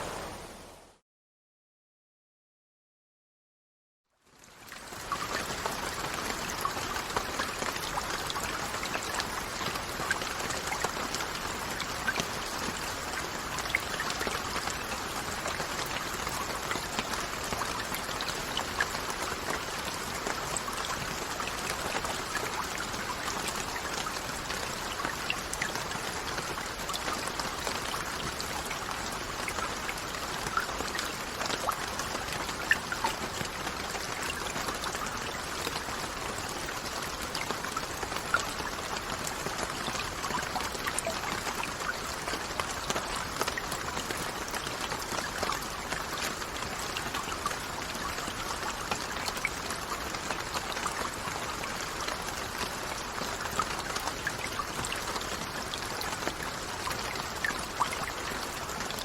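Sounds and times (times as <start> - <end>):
steady rain: 0.0 - 1.0, 4.2 - 59.0.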